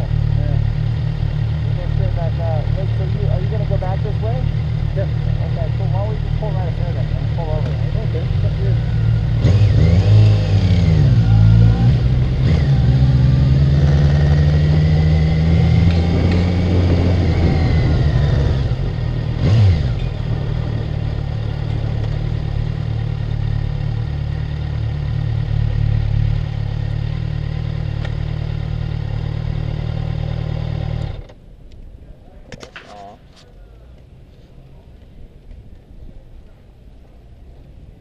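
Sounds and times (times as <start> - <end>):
motorcycle engine revving and idling: 0.0 - 31.4.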